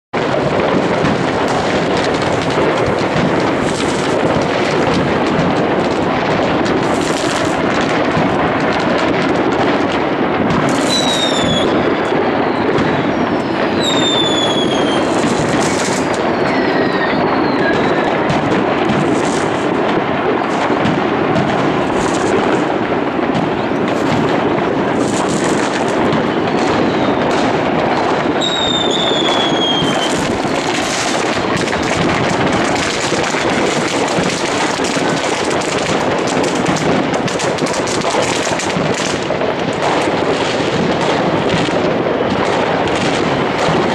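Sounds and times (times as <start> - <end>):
fireworks crackling and banging: 0.1 - 43.9
whistling fireworks shrieking: 0.2 - 43.9.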